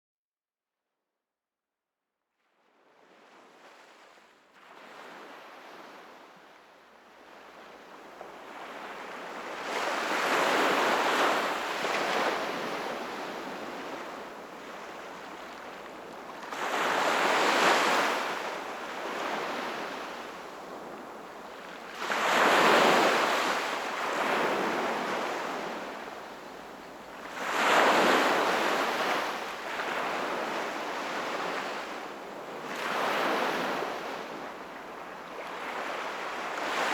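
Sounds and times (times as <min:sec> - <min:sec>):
sea waves breaking on shore: 0:03.0 - 0:36.9.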